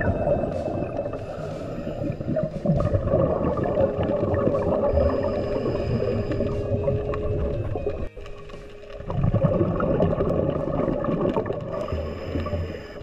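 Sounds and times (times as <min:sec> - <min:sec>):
steady hum: 0:00.0 - 0:11.2
muffled underwater rumble: 0:00.0 - 0:13.0
scuba exhaust bubbles: 0:00.0 - 0:13.0.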